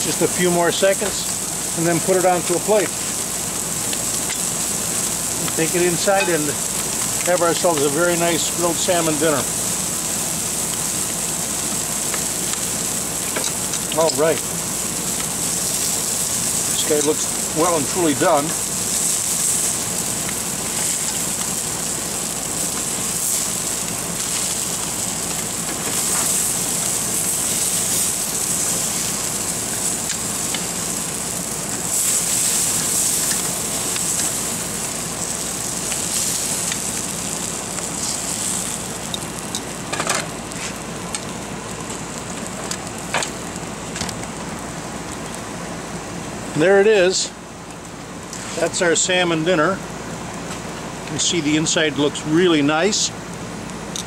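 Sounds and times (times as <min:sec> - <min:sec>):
fish sizzling on a grill: 0:00.0 - 0:54.0.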